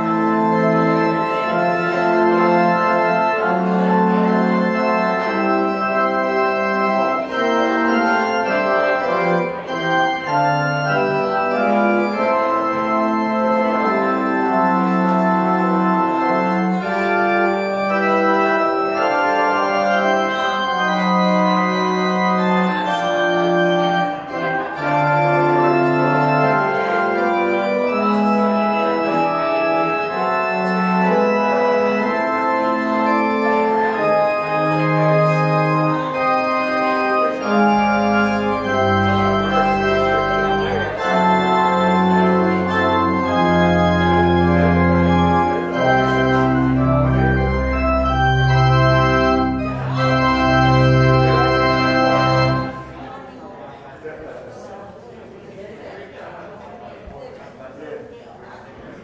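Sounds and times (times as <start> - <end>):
organ playing slow chords: 0.0 - 53.3.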